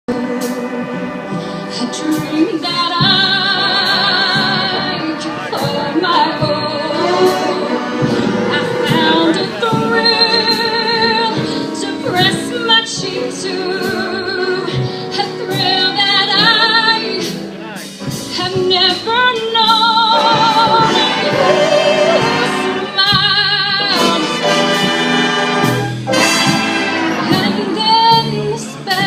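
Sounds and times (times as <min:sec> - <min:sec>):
live band music: 0:00.1 - 0:29.0.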